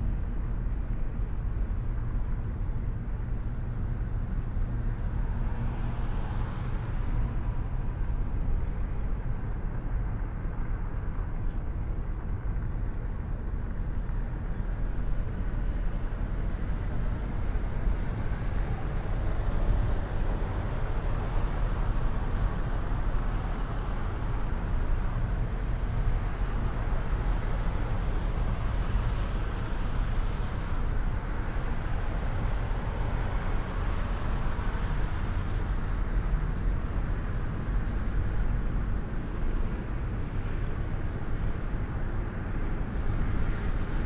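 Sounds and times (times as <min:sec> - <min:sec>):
car engine and tyre rumble: 0:00.0 - 0:44.0
other traffic: 0:00.0 - 0:44.0.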